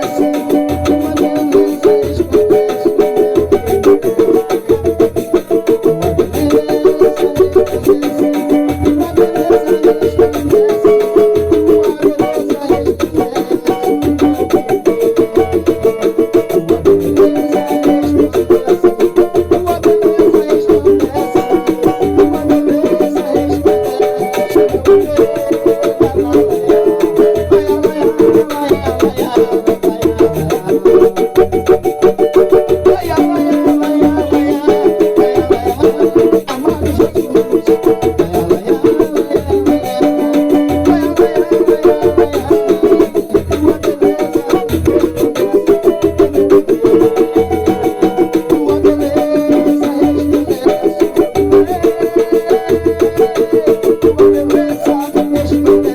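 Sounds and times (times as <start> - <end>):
banjo picking: 0.0 - 55.9.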